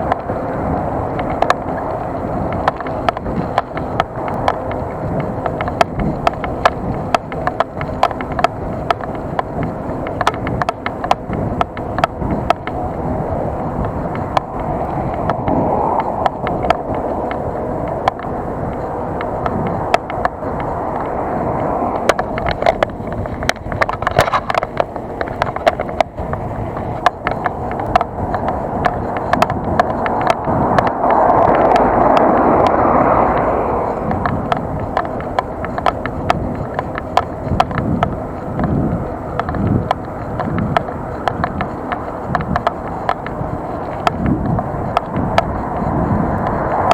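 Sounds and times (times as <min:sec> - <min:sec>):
bike rattles and clicks: 0:00.0 - 0:46.9
tyre and wind rumble: 0:00.0 - 0:46.9.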